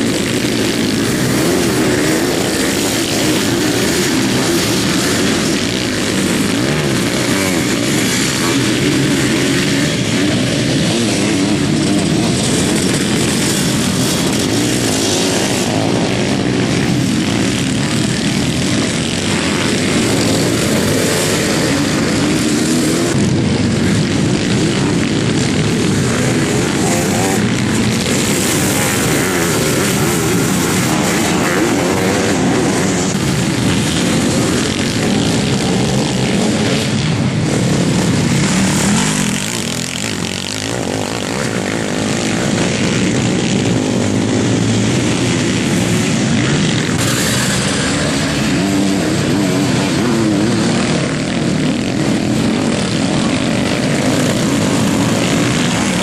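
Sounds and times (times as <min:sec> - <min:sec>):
motorcycle engines racing: 0:00.0 - 0:56.0.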